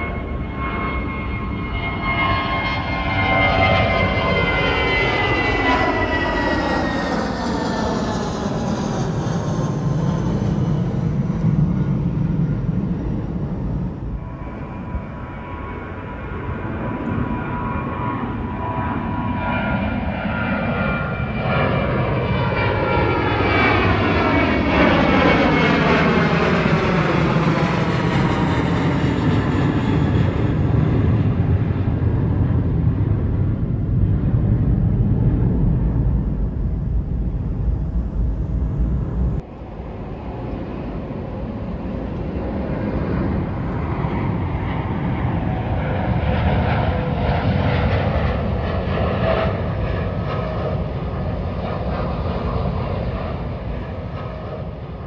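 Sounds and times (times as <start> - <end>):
airplane engine rumble: 0.0 - 55.0
jet airliner passing overhead: 0.0 - 55.0.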